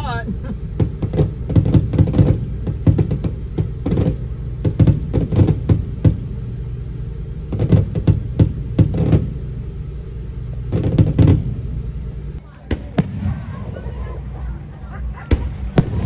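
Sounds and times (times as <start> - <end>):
low rumble: 0.0 - 16.0
fireworks bangs and pops: 0.4 - 14.4, 15.2 - 16.0.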